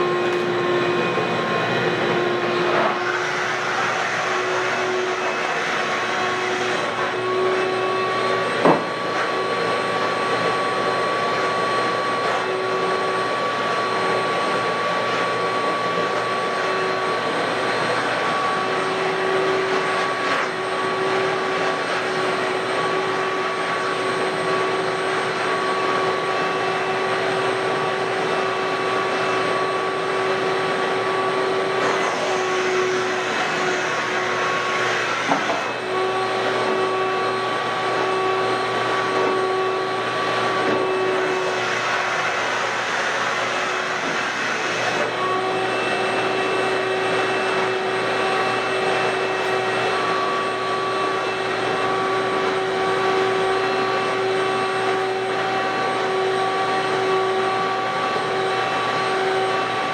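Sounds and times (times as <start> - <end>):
carpet cleaning machine motor whine: 0.0 - 59.9.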